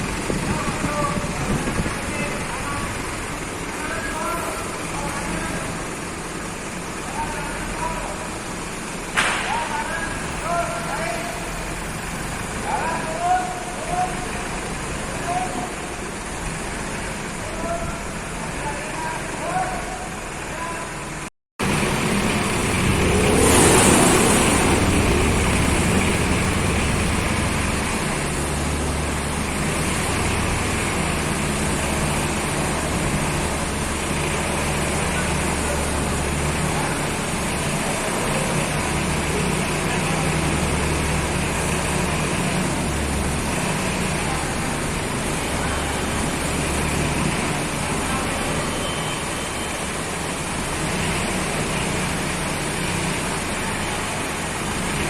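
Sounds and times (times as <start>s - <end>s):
forklift engine running: 0.0s - 18.6s, 19.8s - 55.0s.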